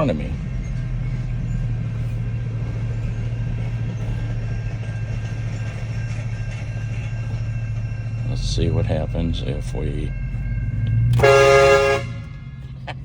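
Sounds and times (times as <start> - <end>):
passing train rumble: 0.0 - 13.0
truck engine idling: 0.0 - 13.0.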